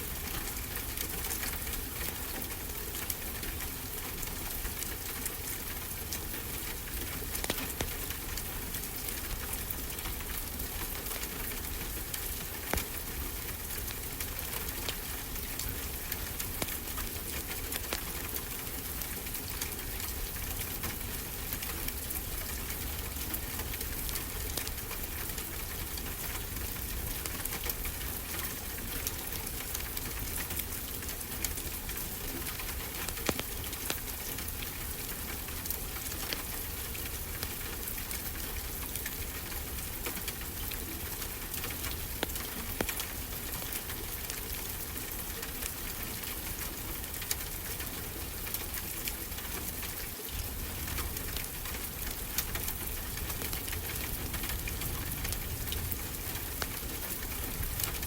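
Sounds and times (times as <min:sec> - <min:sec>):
wood fire crackling: 0:04.4 - 0:47.8, 0:50.3 - 0:58.0.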